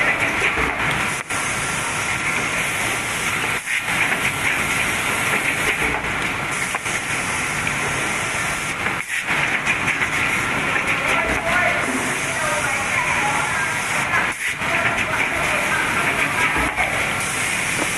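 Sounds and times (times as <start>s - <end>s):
box forming machine running: 0.0s - 17.9s.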